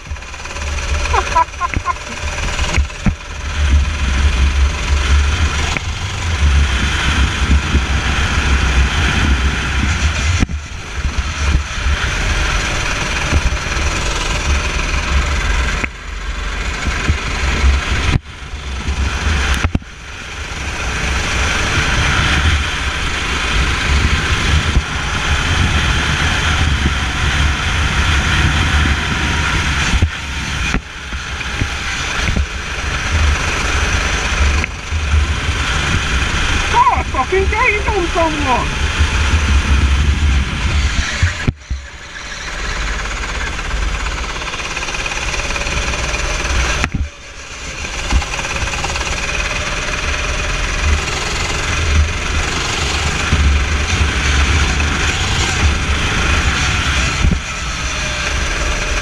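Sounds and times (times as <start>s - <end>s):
go-kart engine racing: 0.0s - 59.0s.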